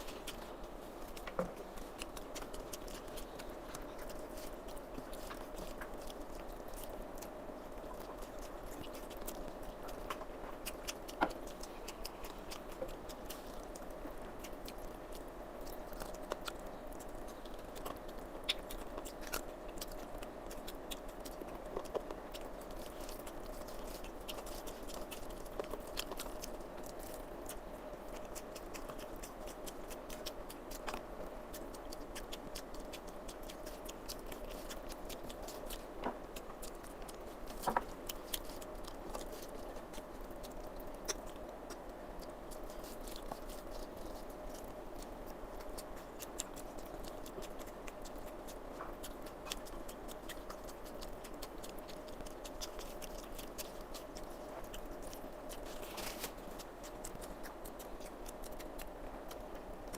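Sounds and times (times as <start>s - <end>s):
chewing and wet mouth sounds: 0.0s - 59.9s
faint steady hum: 0.0s - 59.9s.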